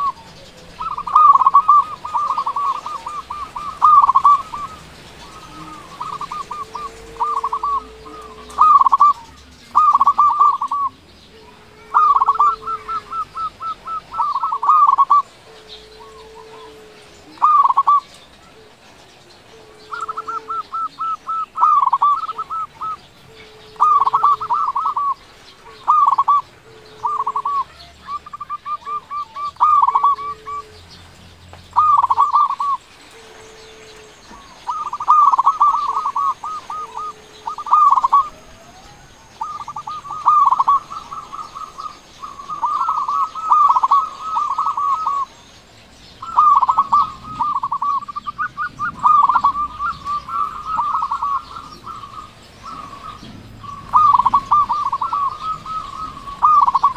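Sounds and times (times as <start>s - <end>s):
low drawn-out dove coos: 0.0s - 45.4s, 46.2s - 56.9s
dove cooing in trilled phrases: 0.0s - 56.9s.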